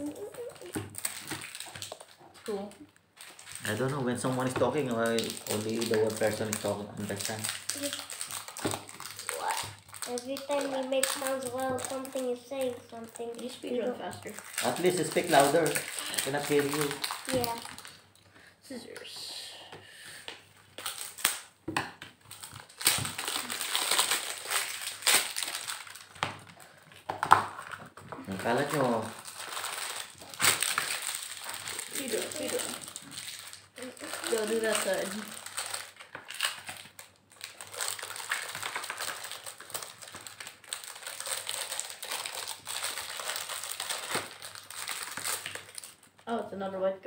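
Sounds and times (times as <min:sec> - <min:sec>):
plastic wrapping crinkling: 0:00.0 - 0:18.2, 0:20.1 - 0:46.4.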